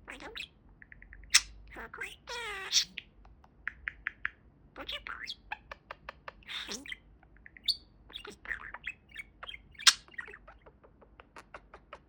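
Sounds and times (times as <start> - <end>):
budgerigar chirping and chattering: 0.0 - 12.0.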